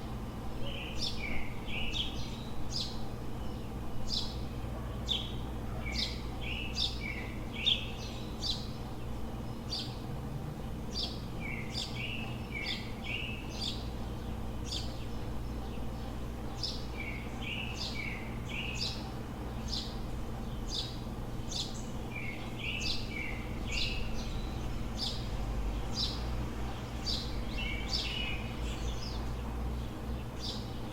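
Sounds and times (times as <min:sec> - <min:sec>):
low city rumble: 0:00.0 - 0:30.9
songbirds chirping: 0:00.0 - 0:30.9.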